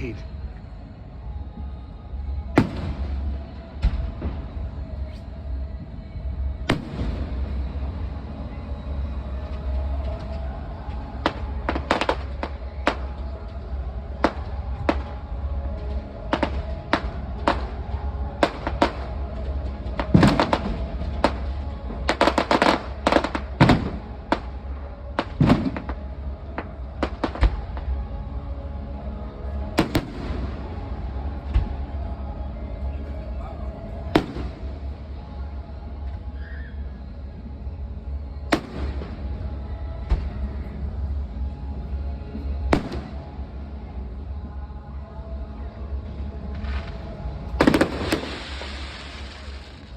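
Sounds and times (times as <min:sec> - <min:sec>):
steady low rumble: 0:00.0 - 0:49.9
fireworks bangs and crackles: 0:01.5 - 0:28.4, 0:29.5 - 0:32.9, 0:33.9 - 0:36.2, 0:38.3 - 0:43.8, 0:46.0 - 0:49.9.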